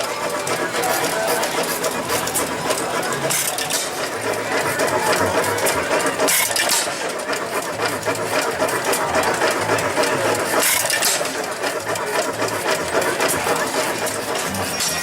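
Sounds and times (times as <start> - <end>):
old engines clattering: 0.0 - 15.0.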